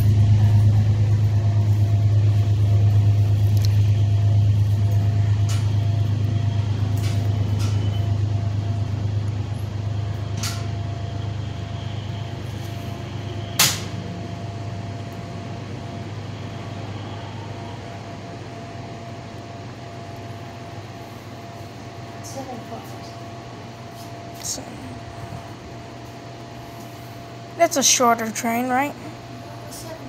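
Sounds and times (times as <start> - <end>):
diesel train drone: 0.0 - 30.0.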